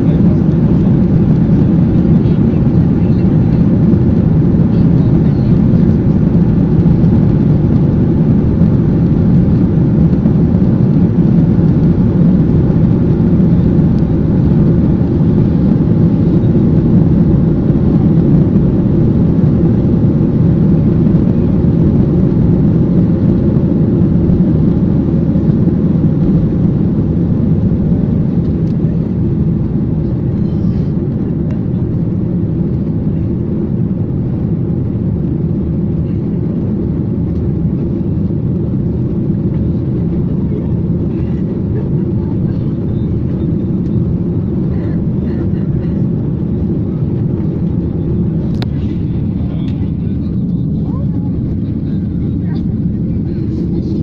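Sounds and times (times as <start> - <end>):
jet engines at takeoff thrust: 0.0 - 54.0.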